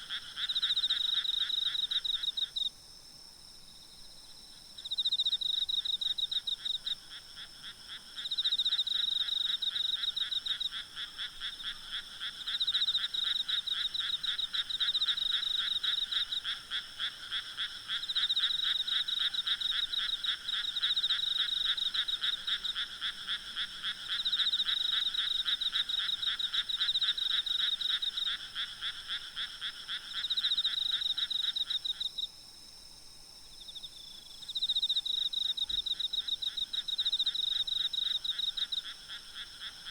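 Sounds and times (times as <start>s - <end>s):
frog croaking: 0.0s - 2.7s, 5.1s - 32.3s, 34.8s - 39.9s
insects chorus: 0.0s - 39.9s.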